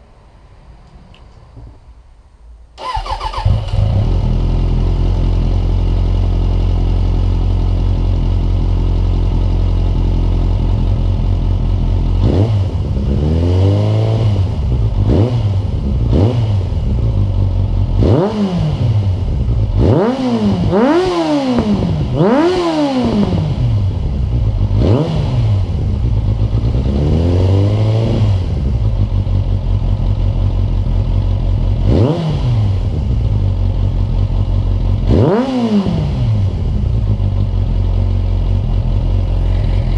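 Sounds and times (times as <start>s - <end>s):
motorcycle engine idling and revving: 2.8s - 39.9s.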